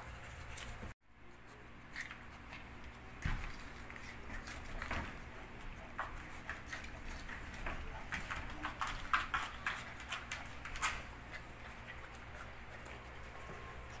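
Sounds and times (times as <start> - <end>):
puppy claws clicking on tiled floor: 1.4 - 14.0.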